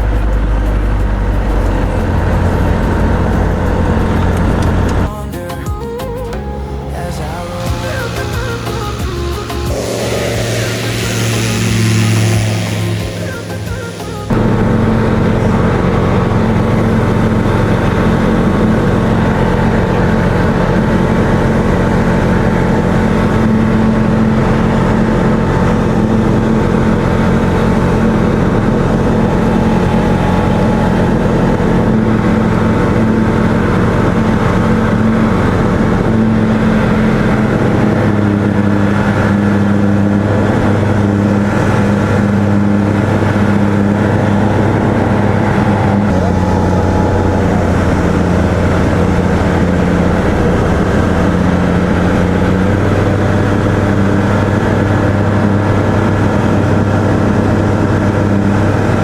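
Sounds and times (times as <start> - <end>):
aircraft piston engine and propeller: 0.0 - 5.5, 6.2 - 59.0.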